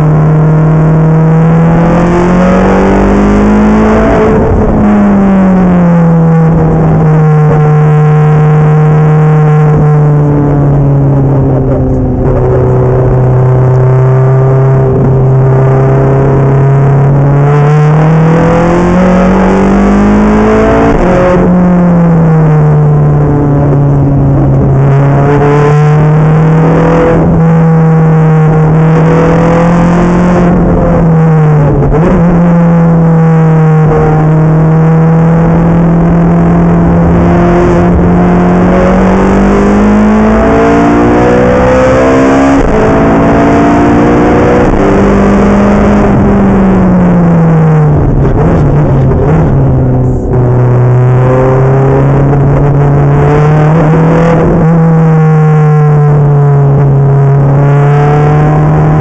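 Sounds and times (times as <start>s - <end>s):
car engine heard from cabin: 0.0s - 59.0s.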